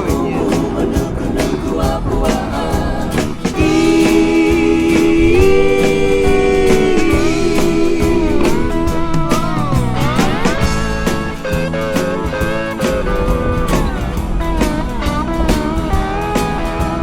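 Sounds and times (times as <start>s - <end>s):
instrumental song music: 0.0s - 17.0s.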